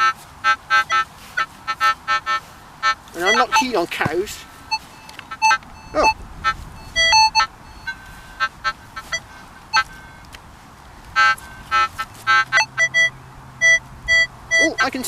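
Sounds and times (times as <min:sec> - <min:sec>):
metal detector beeping: 0:00.0 - 0:10.4, 0:11.2 - 0:15.0.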